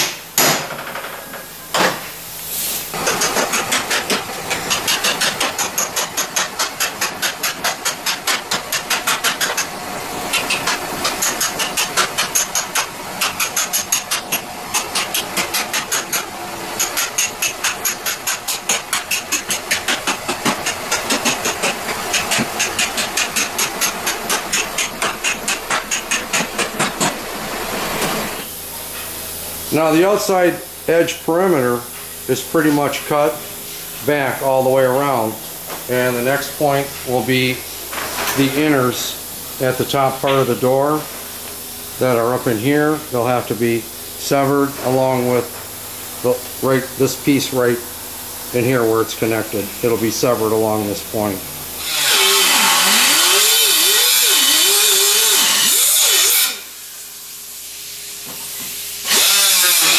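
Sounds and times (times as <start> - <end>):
steady hiss: 1.4 - 59.9.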